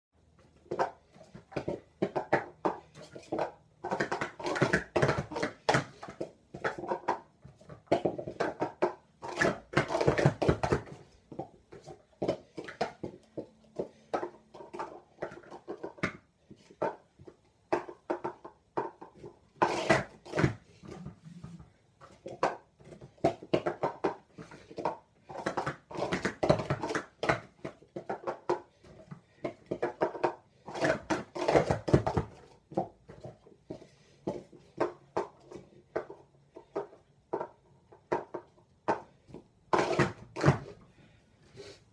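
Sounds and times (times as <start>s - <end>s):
plastic cups clacking: 0.5s - 41.2s.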